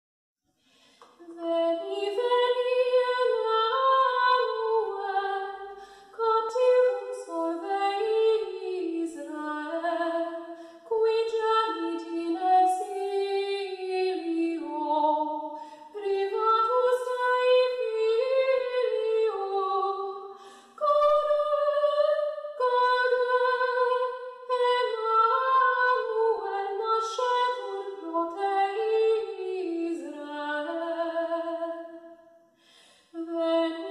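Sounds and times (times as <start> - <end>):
woman singing: 1.2 - 32.0, 33.2 - 33.9.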